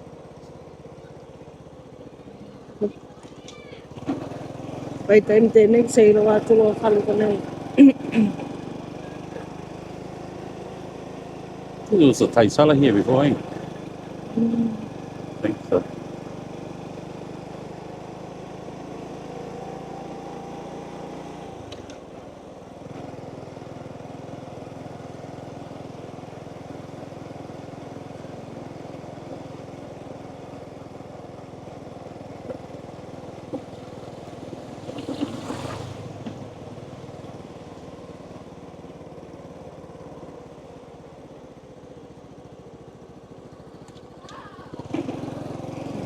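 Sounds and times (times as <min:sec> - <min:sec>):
motorbike engine running: 0:00.0 - 0:46.0.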